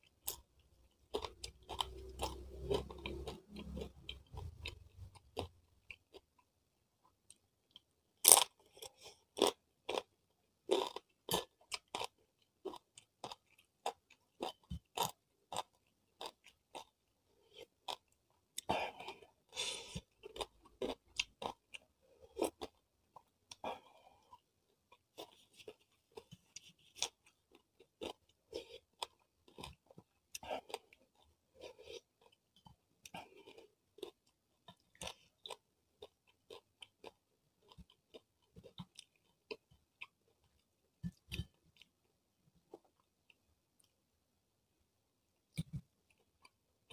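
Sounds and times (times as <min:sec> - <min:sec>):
chewing crisp chips: 0:00.0 - 0:06.5, 0:07.2 - 0:44.0.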